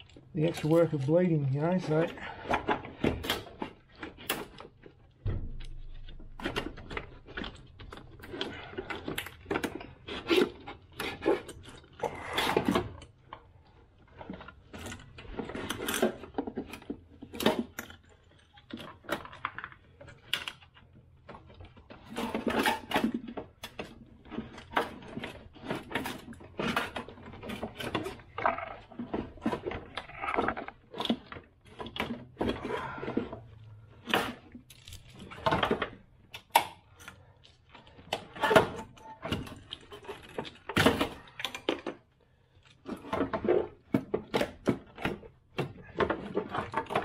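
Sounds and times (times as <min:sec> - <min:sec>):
knocks and scrapes of car parts: 0:01.8 - 0:42.1, 0:42.8 - 0:47.0.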